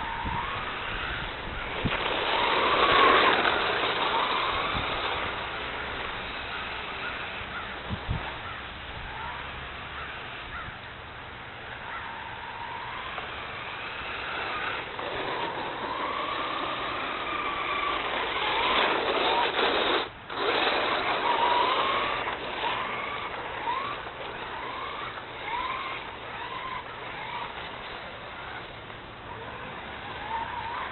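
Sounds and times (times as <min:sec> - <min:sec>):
tyres sliding on ice: 0:00.0 - 0:08.4, 0:11.9 - 0:30.9
toy car motor whining: 0:00.0 - 0:10.7, 0:11.8 - 0:30.9.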